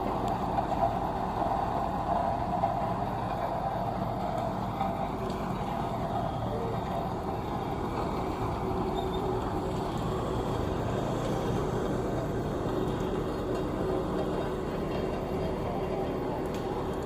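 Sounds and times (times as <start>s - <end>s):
road roller diesel engine running: 0.0s - 17.0s.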